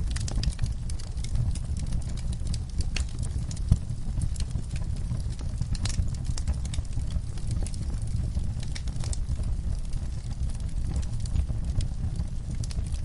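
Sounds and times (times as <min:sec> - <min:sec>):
fire crackles and pops: 0:00.0 - 0:13.0
wood fire rumbling: 0:00.0 - 0:13.0.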